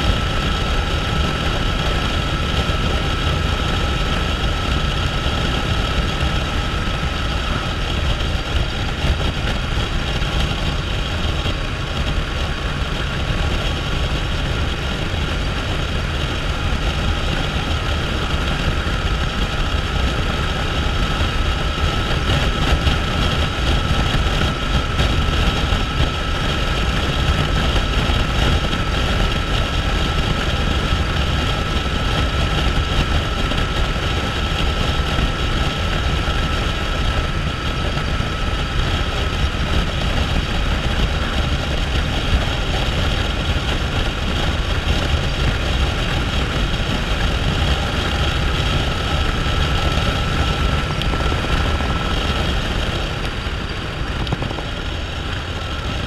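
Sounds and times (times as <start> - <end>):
motorcycle engine drone: 0.0 - 56.0
wind rush: 0.0 - 56.0.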